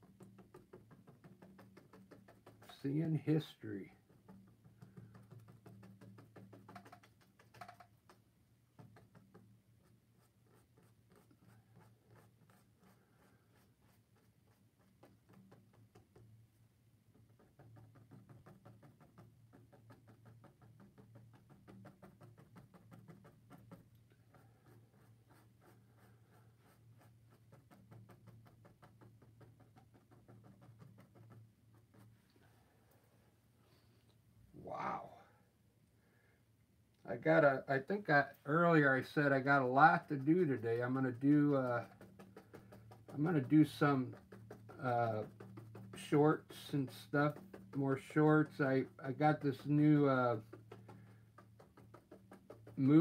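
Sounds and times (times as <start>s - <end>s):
paintbrush tapping on canvas: 0.0s - 16.4s, 17.1s - 32.2s, 38.8s - 53.0s.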